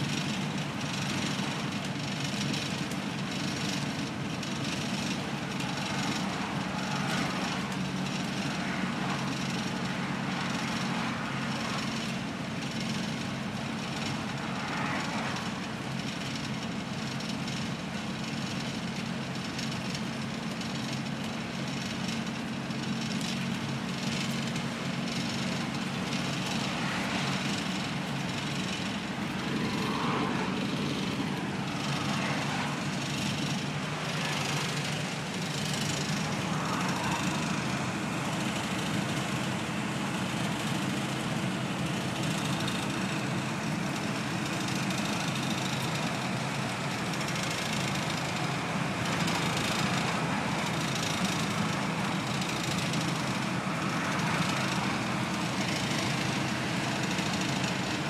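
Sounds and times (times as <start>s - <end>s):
bus body and windows rattling: 0.0s - 58.0s
bus diesel engine droning: 0.0s - 58.0s
road noise: 0.0s - 58.0s.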